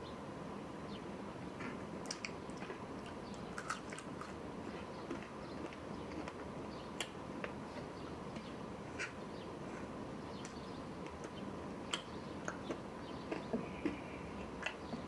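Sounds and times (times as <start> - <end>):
person chewing food: 1.6 - 10.5, 11.1 - 15.0.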